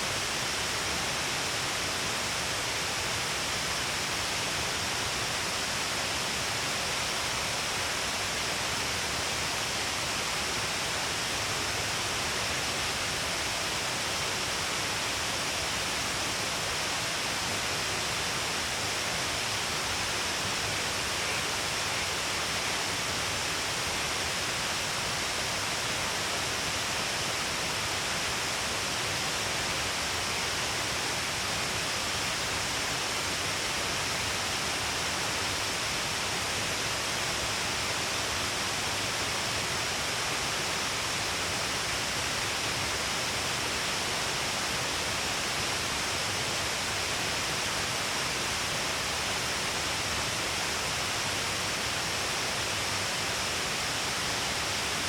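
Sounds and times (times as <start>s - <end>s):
waterfall rushing hiss: 0.0s - 55.0s.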